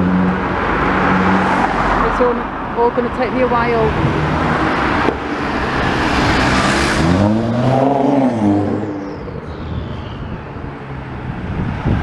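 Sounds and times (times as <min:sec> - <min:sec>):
car engine passing: 0:00.0 - 0:02.8, 0:03.4 - 0:12.0.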